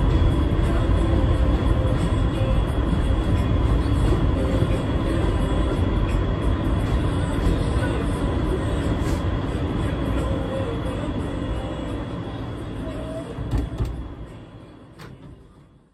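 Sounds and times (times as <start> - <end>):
train wheels rumbling on rails: 0.0 - 15.9.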